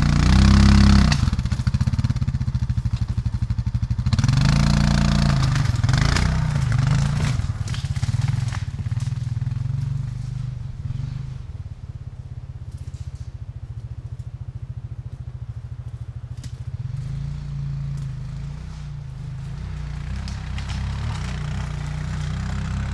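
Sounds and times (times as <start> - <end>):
off-road engine idling: 0.0 - 22.9.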